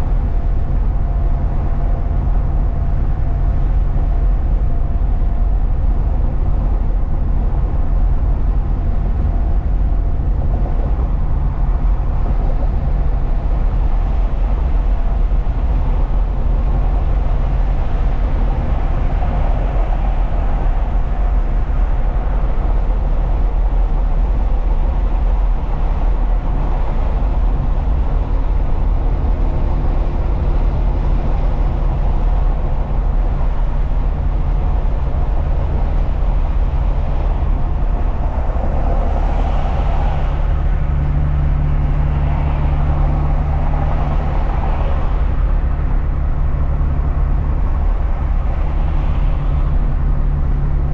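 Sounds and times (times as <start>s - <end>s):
road noise: 0.0s - 50.9s
truck engine rumble: 0.0s - 50.9s.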